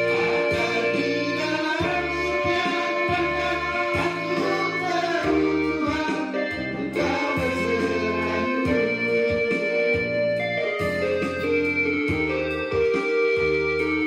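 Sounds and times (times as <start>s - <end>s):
instrumental worship music: 0.0s - 14.0s.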